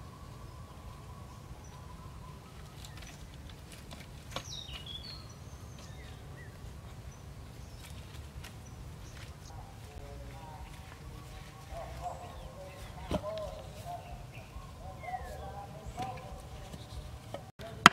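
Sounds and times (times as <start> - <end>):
bird chirps: 0.0 - 17.5
clicks and rustles on thatch: 1.7 - 17.9.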